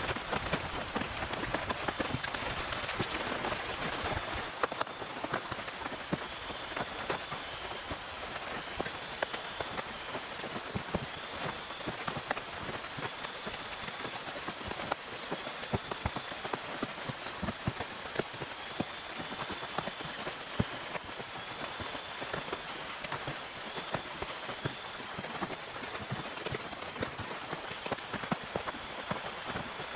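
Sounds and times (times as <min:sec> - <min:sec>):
rain drops on a tent: 0:00.0 - 0:29.9.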